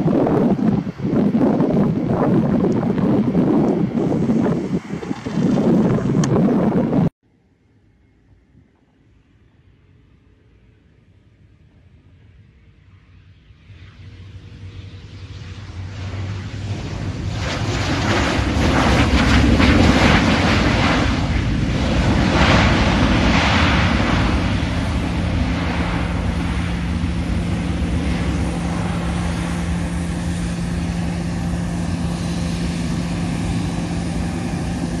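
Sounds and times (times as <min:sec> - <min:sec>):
jet engines roaring: 0:00.0 - 0:07.1, 0:12.4 - 0:35.0
steady low hum: 0:00.0 - 0:35.0.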